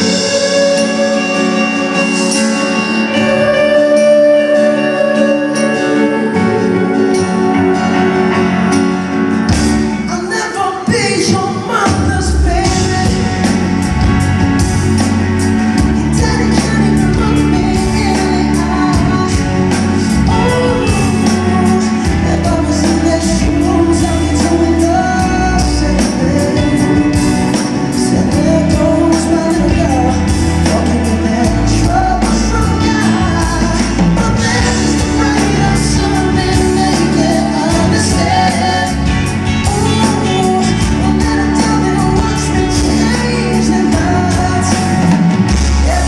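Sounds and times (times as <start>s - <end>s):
live band playing ballad: 0.0s - 46.0s
person singing: 0.0s - 46.0s.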